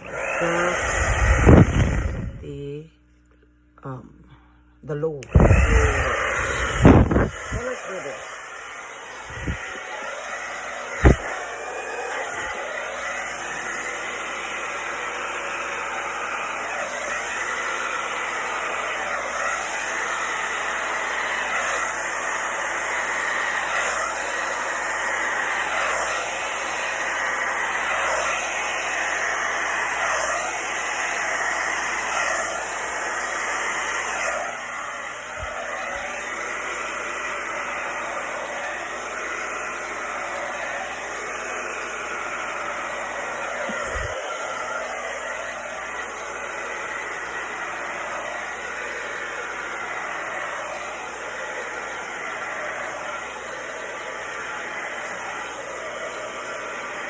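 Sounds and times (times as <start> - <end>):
hair dryer blowing: 0.0 - 2.8, 4.9 - 57.0.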